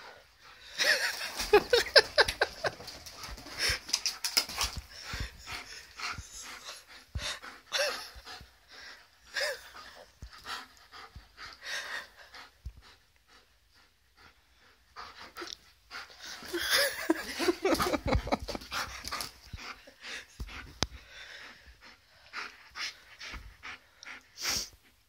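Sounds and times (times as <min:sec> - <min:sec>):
dog panting hard: 0:00.0 - 0:25.0.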